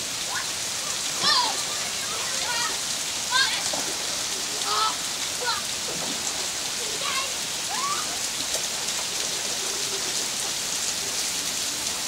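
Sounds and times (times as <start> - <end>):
heavy rain on pavement and grass: 0.0 - 12.0.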